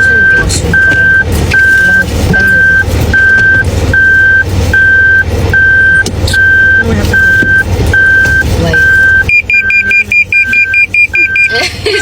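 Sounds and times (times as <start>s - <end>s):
fast high beeping: 0.0s - 11.6s
car warning beeps: 0.0s - 12.0s
low engine rumble: 0.0s - 12.0s.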